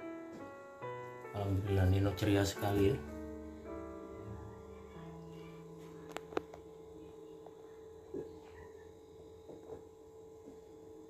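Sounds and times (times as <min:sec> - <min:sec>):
soft keyboard background music: 0:00.0 - 0:11.0.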